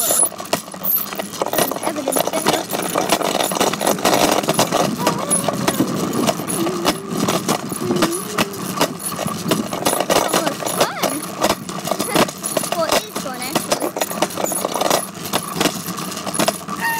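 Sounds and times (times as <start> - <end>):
bicycle rattling: 0.0 - 16.9.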